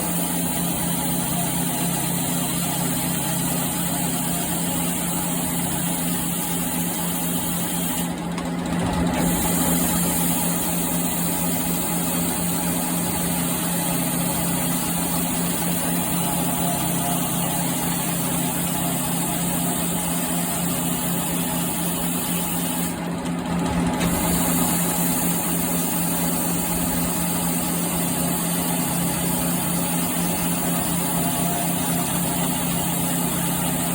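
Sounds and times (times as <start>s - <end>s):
circular saw motor humming: 0.0s - 33.9s.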